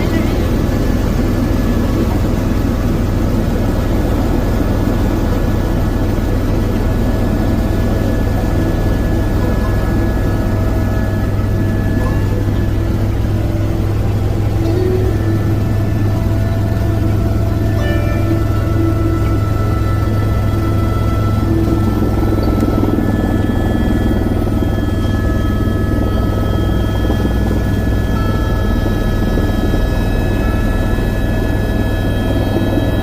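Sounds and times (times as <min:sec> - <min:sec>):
faint steady whining tones: 0:00.0 - 0:33.0
helicopter engine and rotor drone: 0:00.0 - 0:33.0.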